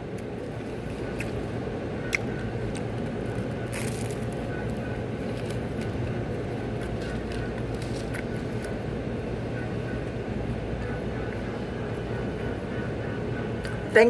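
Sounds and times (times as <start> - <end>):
engine hum and rumble: 0.0 - 14.0.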